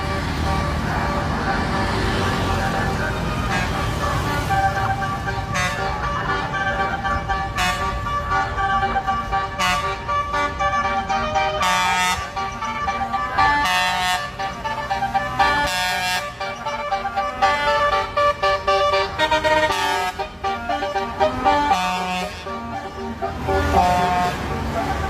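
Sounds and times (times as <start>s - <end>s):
vehicle air horns sounding chords: 0.0s - 25.0s.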